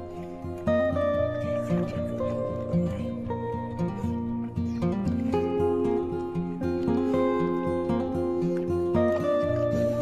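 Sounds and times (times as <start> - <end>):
acoustic guitar plucking: 0.0 - 10.0.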